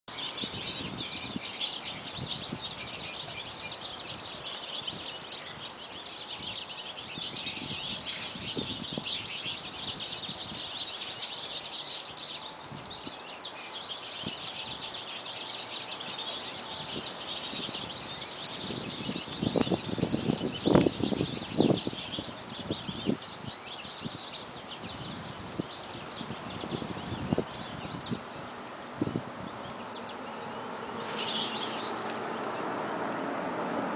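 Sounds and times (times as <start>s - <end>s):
finches chirping: 0.1s - 32.8s.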